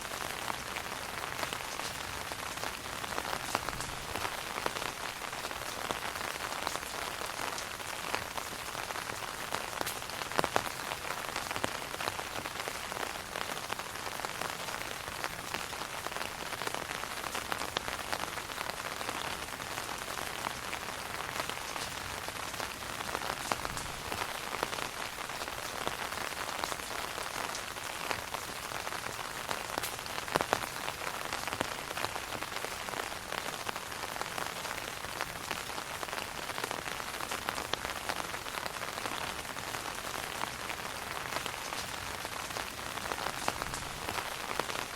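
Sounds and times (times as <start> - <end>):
rain on umbrella: 0.0 - 44.9.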